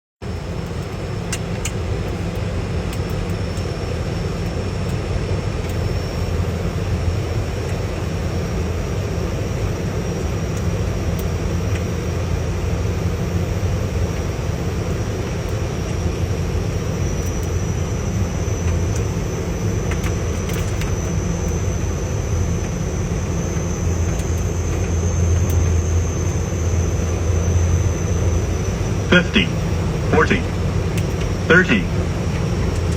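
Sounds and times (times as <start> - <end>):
aircraft cabin engine noise: 0.2 - 32.9
high whine: 0.2 - 32.9.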